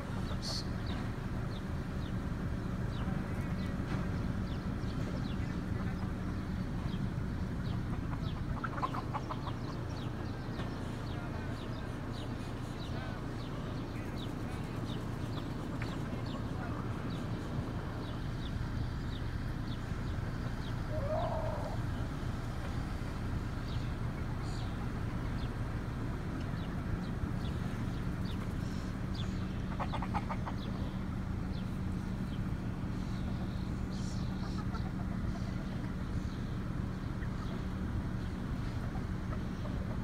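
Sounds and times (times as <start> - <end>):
chickens clucking: 0.0 - 1.2, 4.9 - 18.2, 19.0 - 40.0.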